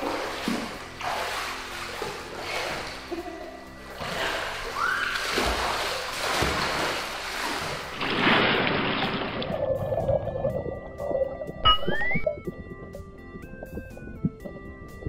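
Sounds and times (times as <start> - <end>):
pool water splashing: 0.0 - 12.2
quiet background music: 0.0 - 15.0.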